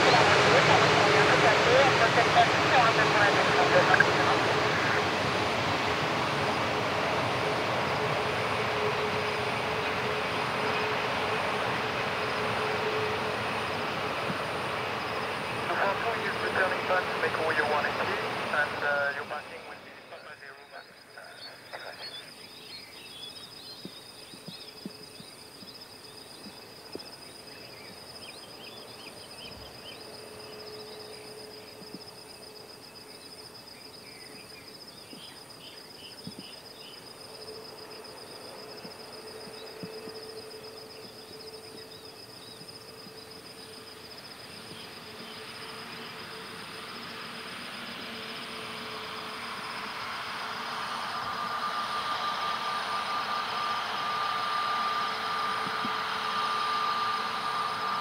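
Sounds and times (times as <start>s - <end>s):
high insect drone: 0.0s - 58.0s
jet engines taxiing: 0.0s - 58.0s.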